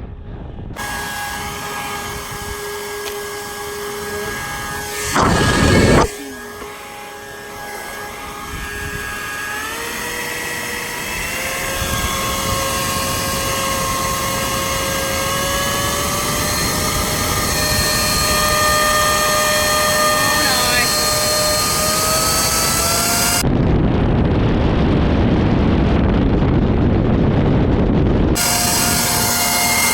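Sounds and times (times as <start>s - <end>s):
leaf blower running: 0.8s - 23.4s, 28.4s - 29.9s.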